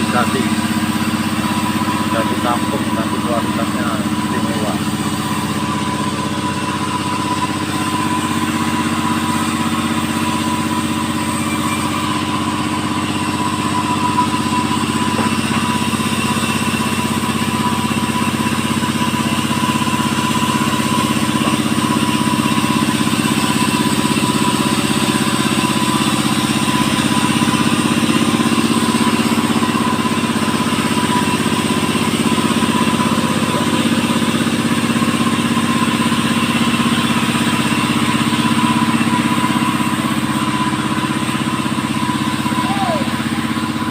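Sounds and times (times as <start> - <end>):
chainsaw cutting through log: 0.0 - 43.9.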